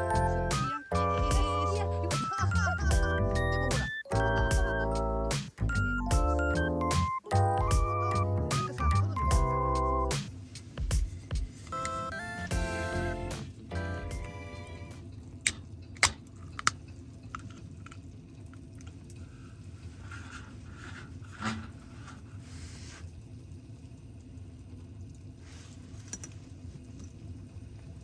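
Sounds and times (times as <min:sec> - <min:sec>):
low steady background noise: 0:00.0 - 0:28.0.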